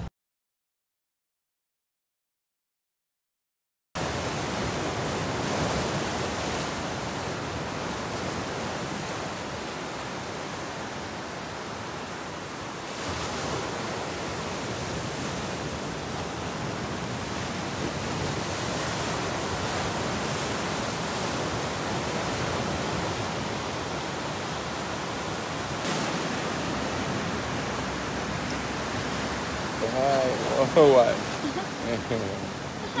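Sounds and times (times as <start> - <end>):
ocean surf on rocky shore: 4.0 - 33.0.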